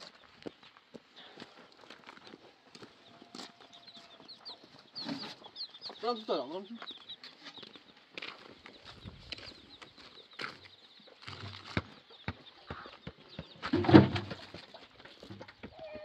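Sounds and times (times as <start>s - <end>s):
birds chirping and clucking: 0.0s - 16.0s.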